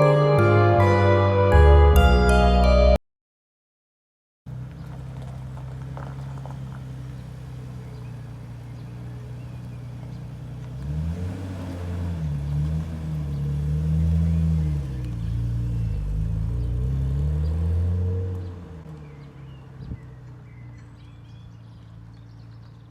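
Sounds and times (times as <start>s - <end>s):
car engine idling and revving: 4.5s - 22.9s.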